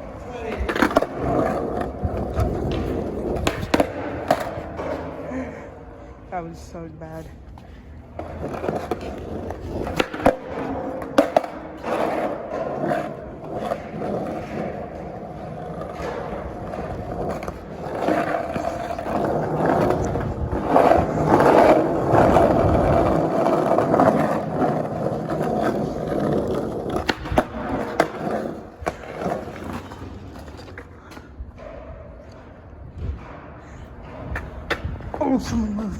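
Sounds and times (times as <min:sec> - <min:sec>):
sharp skateboard clacks: 0:00.0 - 0:05.2, 0:08.2 - 0:32.5
skateboard wheels rolling on concrete: 0:00.0 - 0:35.9.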